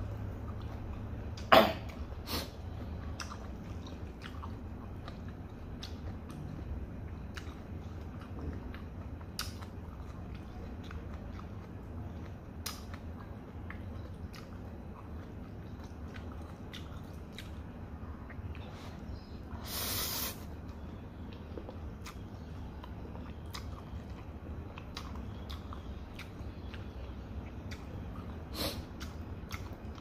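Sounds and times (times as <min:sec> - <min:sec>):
chewing with wet mouth clicks: 0:00.1 - 0:19.5, 0:20.5 - 0:30.0.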